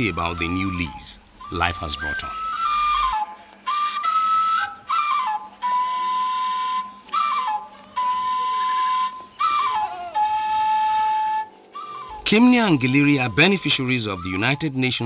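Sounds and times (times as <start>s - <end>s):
flute-like melody: 0.0s - 15.0s.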